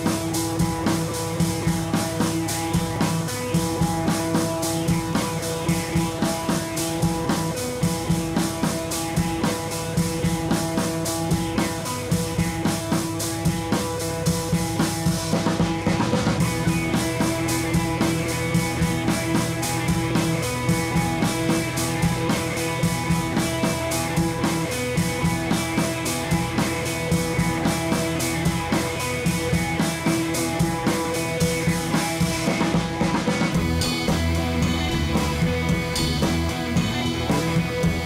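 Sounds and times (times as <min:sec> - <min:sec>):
rock music with drums and guitar: 0:00.0 - 0:38.0.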